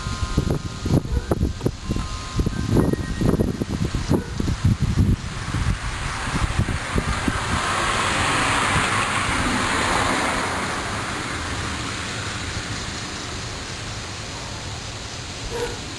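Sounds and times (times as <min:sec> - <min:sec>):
vehicle tyre noise passing: 0:00.0 - 0:15.9.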